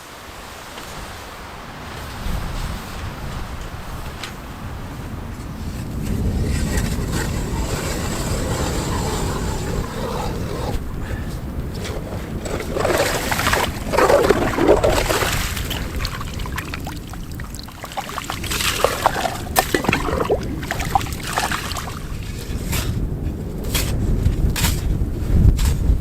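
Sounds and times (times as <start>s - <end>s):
rustling and scraping in snow: 0.0s - 26.0s
wind buffeting microphone: 0.2s - 26.0s.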